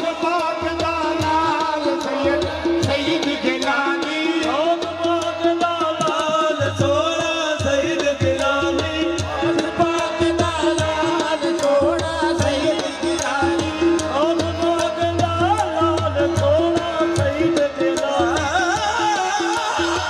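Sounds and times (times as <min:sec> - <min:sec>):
tabla beat: 0:00.0 - 0:20.0.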